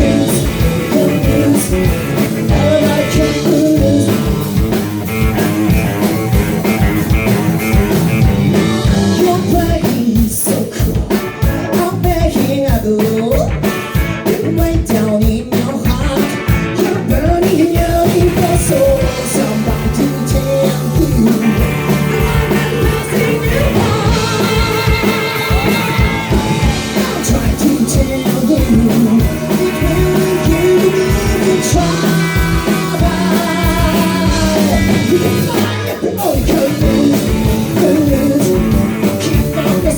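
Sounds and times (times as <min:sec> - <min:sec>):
man singing: 0:00.0 - 0:39.9
rock band playing: 0:00.0 - 0:39.9
steady drum beat: 0:00.0 - 0:39.9.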